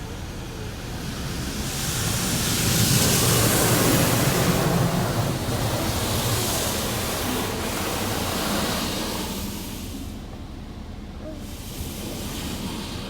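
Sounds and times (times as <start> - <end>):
car wash machinery rushing: 0.0 - 13.0.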